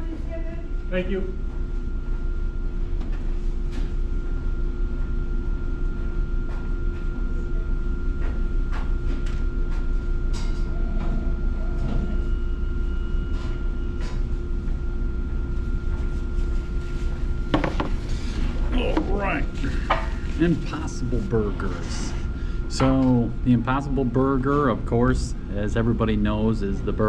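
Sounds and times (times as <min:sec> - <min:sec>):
mechanical hum with low rumble: 0:00.0 - 0:27.0.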